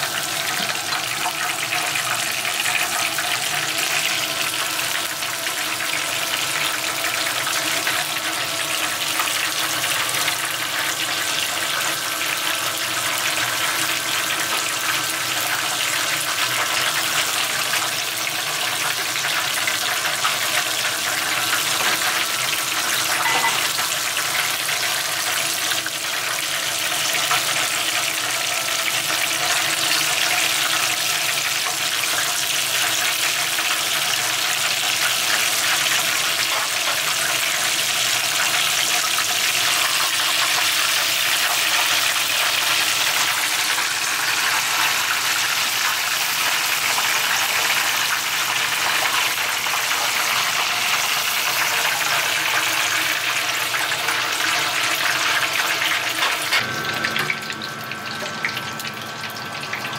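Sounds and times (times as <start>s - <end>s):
deep-frying sizzle: 0.0s - 59.9s.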